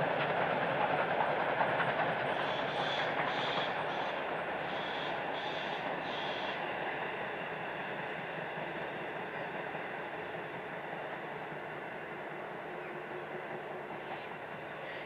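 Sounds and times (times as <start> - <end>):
steam train rumble: 0.0 - 15.0.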